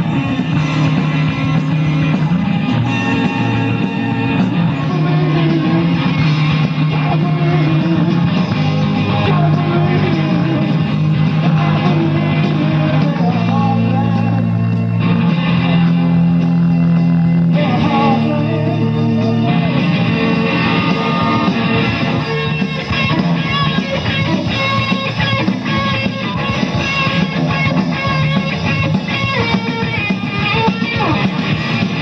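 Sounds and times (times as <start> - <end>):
rock band playing live: 0.0 - 32.0
sustained bass notes: 0.0 - 32.0.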